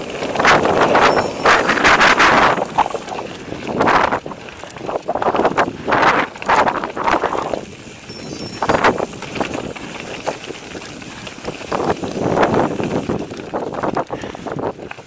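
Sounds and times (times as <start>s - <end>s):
bike rattling: 0.0s - 15.0s
bike tyres crunching over gravel: 0.0s - 15.0s
wind buffeting microphone: 0.0s - 15.0s.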